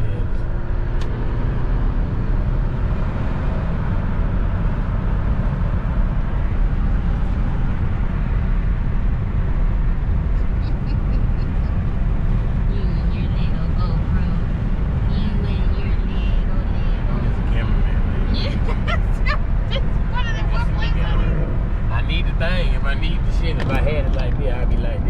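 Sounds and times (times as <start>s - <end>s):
car rumble from inside cabin: 0.0s - 25.0s.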